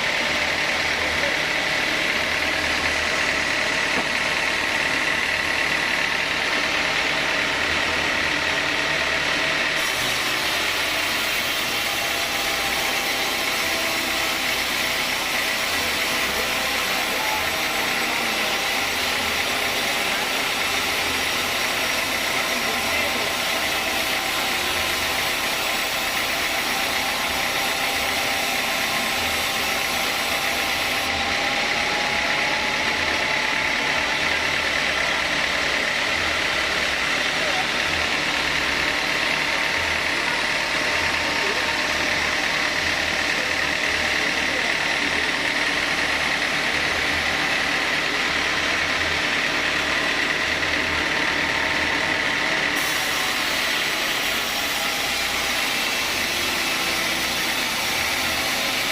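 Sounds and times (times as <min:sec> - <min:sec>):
saw blade cutting wood: 0:00.0 - 0:58.9
sawmill saw running: 0:00.0 - 0:58.9.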